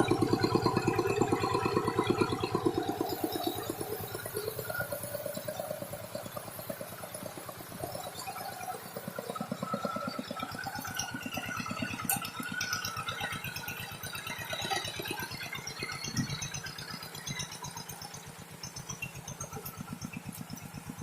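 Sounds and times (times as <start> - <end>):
tractor engine puttering: 0.0 - 21.0.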